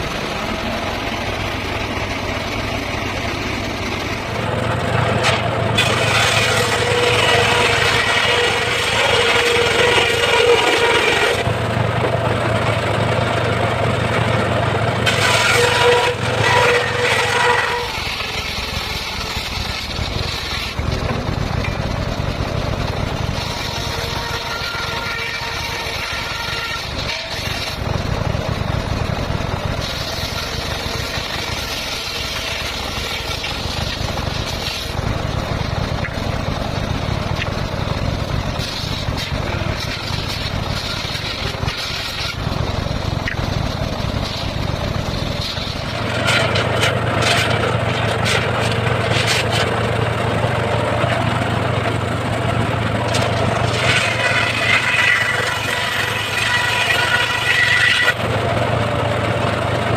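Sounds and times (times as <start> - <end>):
circular saw running: 0.0 - 59.9.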